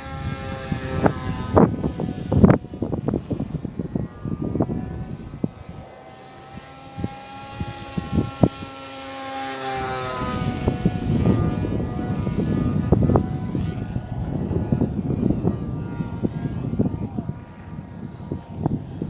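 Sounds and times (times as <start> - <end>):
model plane motor whining: 0.0 - 19.0
wind buffeting microphone: 0.0 - 19.0.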